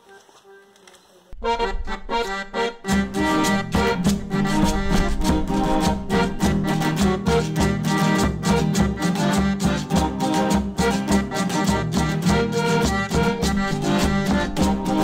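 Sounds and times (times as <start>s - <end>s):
steady drum beat: 1.4s - 15.0s
string band dance music: 1.4s - 15.0s.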